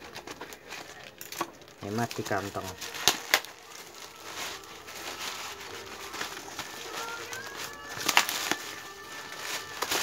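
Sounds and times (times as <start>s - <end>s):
plastic bag and cardboard rustling: 0.0s - 10.0s
sharp plastic crackles: 0.0s - 10.0s.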